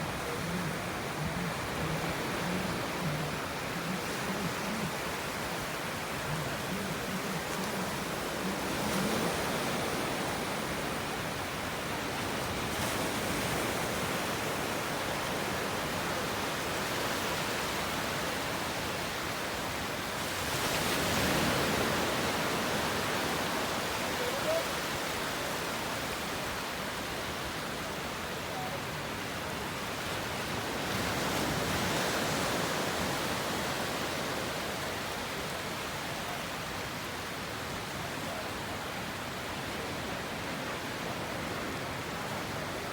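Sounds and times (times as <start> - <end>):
ocean waves breaking on beach: 0.0 - 42.9.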